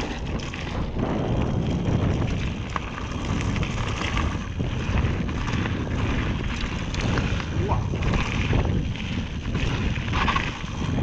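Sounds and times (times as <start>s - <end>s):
bike clicks and rattles: 0.0s - 11.0s
bike tyres on dirt: 0.0s - 11.0s
wind buffeting microphone: 0.0s - 11.0s.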